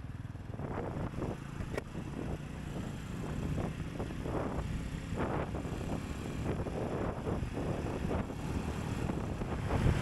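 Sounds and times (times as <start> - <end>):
motorbike engine accelerating: 0.0 - 10.0
wind buffeting microphone: 0.5 - 10.0.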